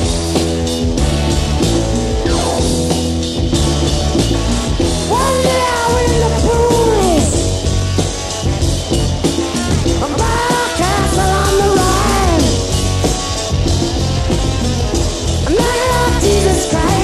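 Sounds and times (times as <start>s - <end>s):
instrumental rock band: 0.0s - 17.0s
sliding lead guitar line: 0.0s - 17.0s.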